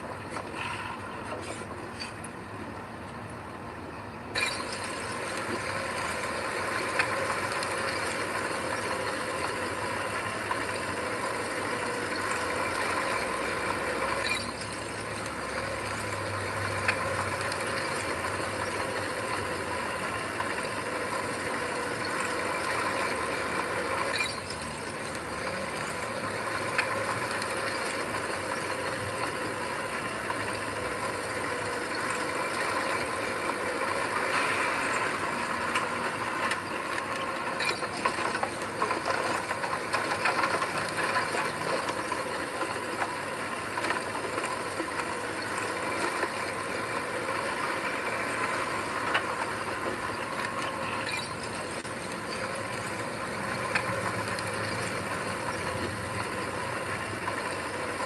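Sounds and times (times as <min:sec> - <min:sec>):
earthmoving machine engine: 0:00.0 - 0:58.0.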